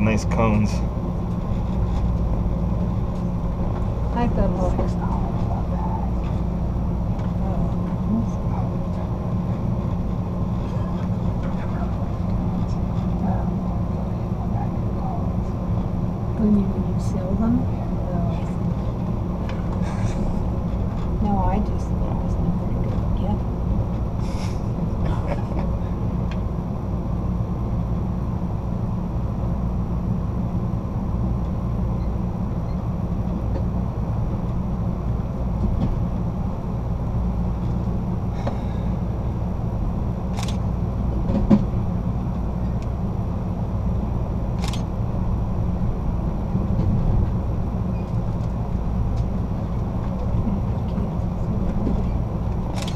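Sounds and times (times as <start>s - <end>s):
train rumbling on track: 0.0s - 52.9s.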